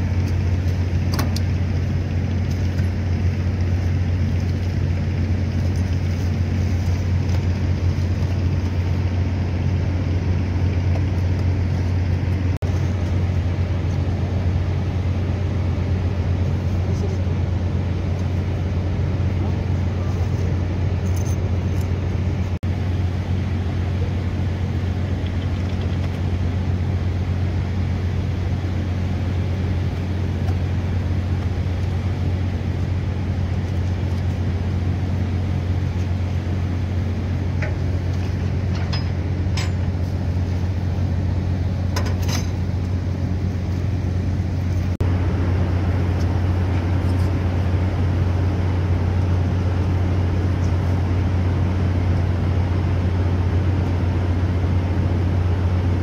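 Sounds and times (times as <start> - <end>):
ship machinery drone: 0.0 - 56.0.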